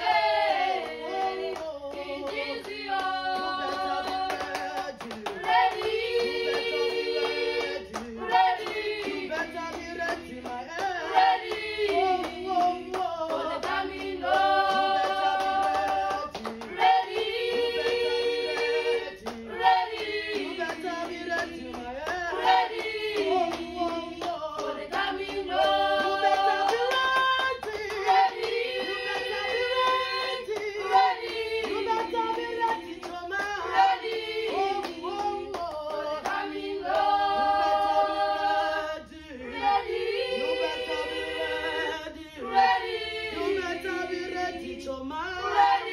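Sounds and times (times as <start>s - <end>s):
hand claps: 0.0s - 38.8s
women singing a cappella: 0.0s - 45.9s.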